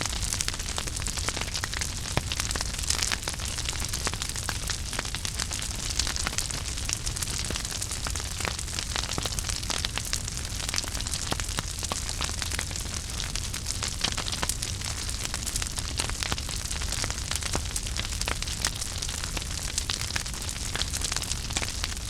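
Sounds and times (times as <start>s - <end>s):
fire crackles and pops: 0.0s - 22.0s
fire flames rumbling and hissing: 0.0s - 22.0s.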